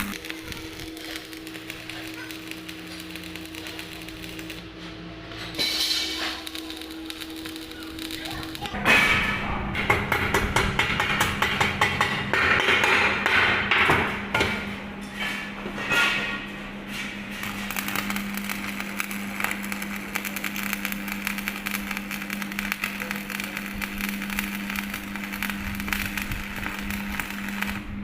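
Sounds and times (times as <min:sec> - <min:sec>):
welding arc crackling: 0:00.0 - 0:12.2, 0:17.3 - 0:28.0
steady low hum: 0:00.0 - 0:12.4, 0:14.0 - 0:28.0.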